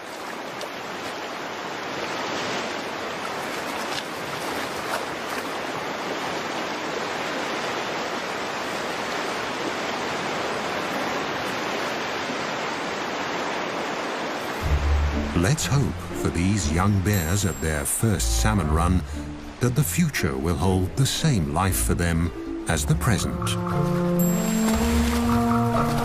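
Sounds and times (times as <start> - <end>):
rushing stream water: 0.0 - 26.0.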